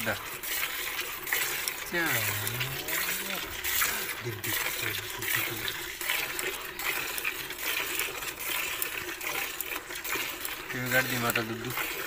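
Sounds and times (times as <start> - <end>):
milk squirting into bucket: 0.0 - 12.0.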